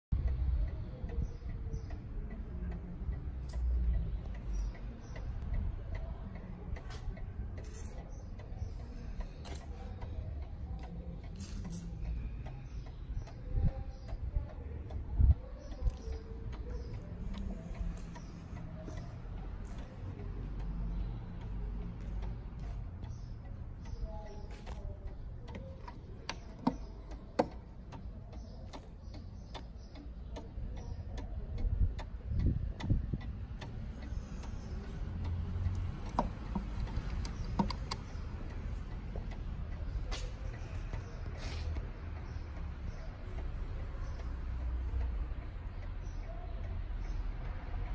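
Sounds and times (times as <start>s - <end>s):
clock pendulum ticking: 0.1s - 47.9s.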